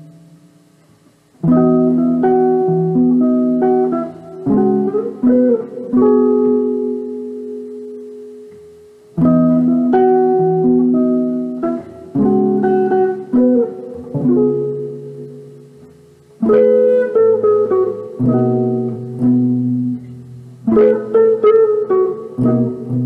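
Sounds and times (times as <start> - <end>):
solo jazz guitar chords: 0.0 - 23.0.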